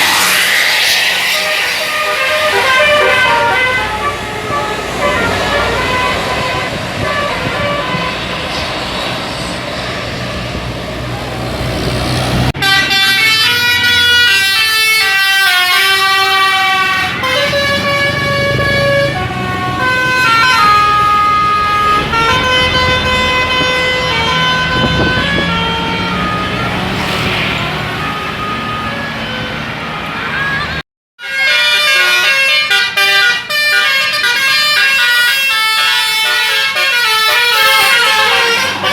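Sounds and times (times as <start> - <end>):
multi-tone air horn melody: 0.0 - 8.8, 12.5 - 38.9
road traffic noise: 0.0 - 38.9.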